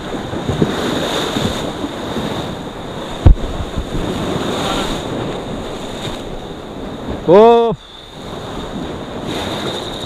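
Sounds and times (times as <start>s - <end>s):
sea waves breaking on rocks: 0.0s - 10.0s
wind buffeting microphone: 0.0s - 10.0s.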